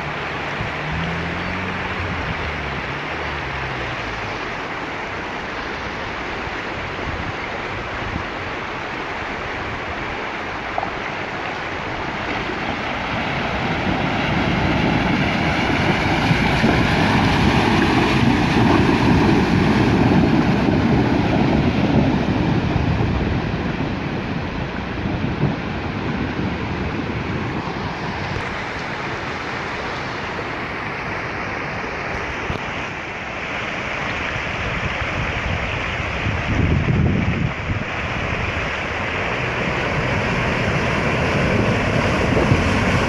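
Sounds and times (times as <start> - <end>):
vehicle engine: 0.0 - 6.9, 10.7 - 32.5, 34.2 - 43.0
rushing water: 0.0 - 43.0.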